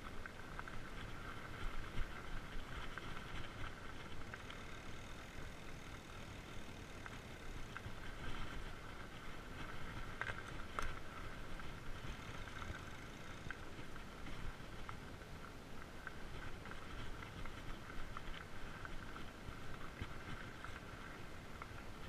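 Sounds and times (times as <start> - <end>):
bike tyres rolling on dirt: 0.0 - 22.0.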